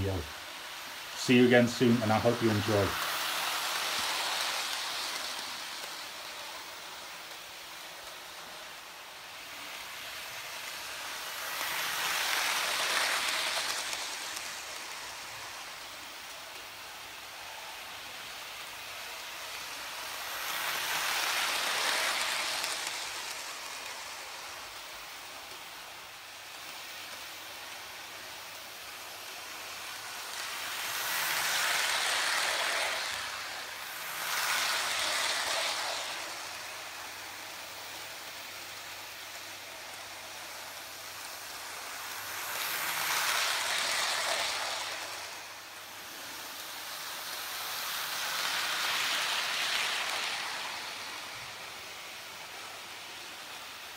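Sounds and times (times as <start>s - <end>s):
model train wheels on track: 0.0s - 53.9s.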